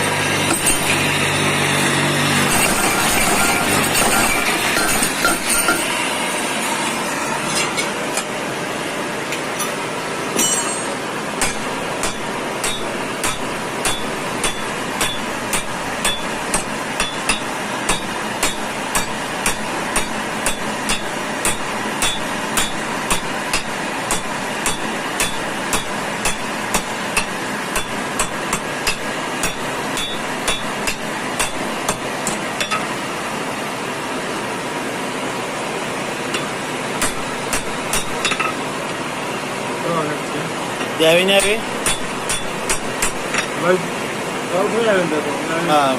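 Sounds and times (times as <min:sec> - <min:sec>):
steady machine noise: 0:00.0 - 0:07.5, 0:09.9 - 0:45.9.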